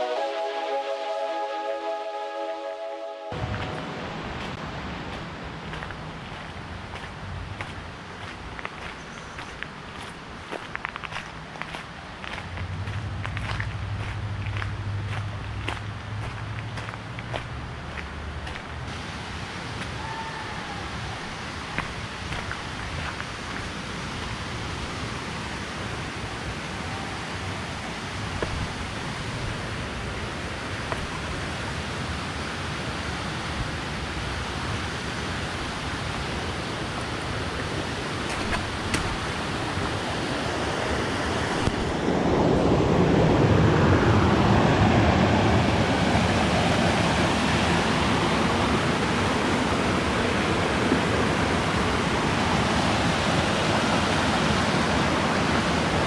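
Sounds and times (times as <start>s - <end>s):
stream rushing over boulders: 3.3s - 56.0s.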